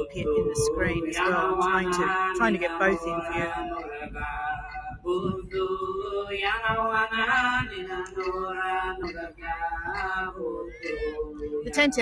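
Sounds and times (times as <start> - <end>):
man singing a chant: 0.0 - 12.0.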